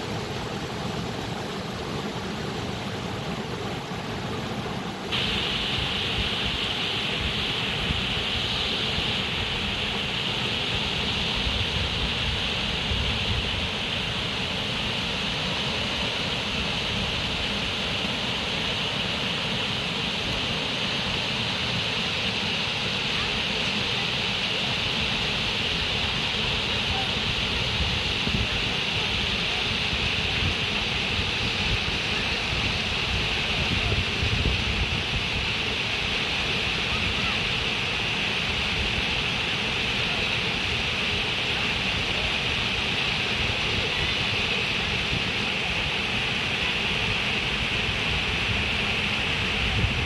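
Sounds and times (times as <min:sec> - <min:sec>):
water rushing: 0:00.0 - 0:50.0.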